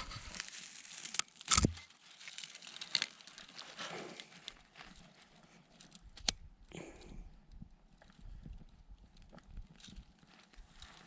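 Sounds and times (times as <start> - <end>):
twigs snapping and crinkling: 0.0 - 11.0.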